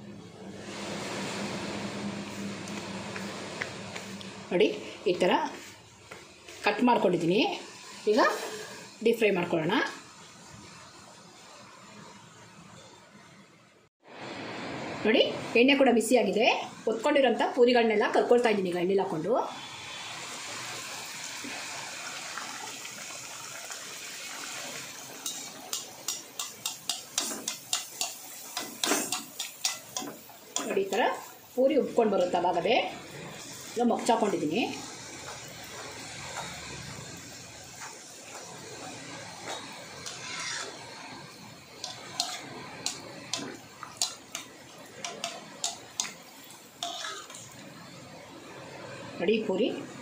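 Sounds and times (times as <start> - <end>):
oil sizzling: 0.4 - 13.4, 14.0 - 50.0.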